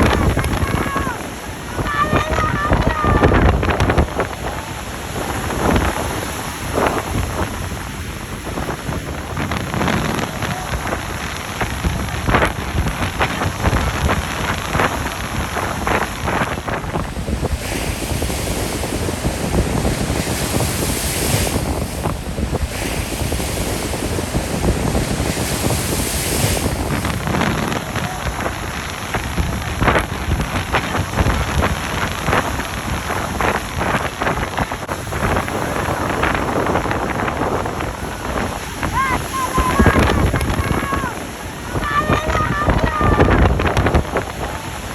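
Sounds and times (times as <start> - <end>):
waves breaking on shore: 0.0 - 44.9
wind buffeting microphone: 0.0 - 44.9.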